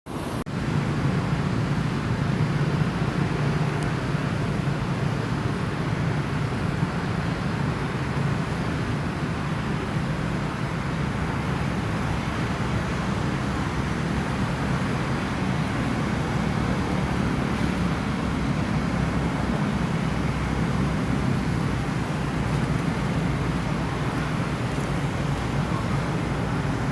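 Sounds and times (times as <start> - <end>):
low rumbling background noise: 0.1 - 26.9.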